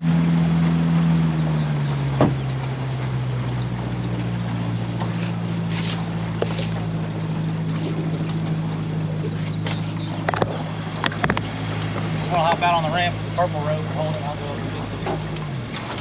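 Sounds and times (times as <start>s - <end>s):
boat motor running: 0.0s - 16.0s
water noise: 0.0s - 16.0s
wind: 0.0s - 16.0s.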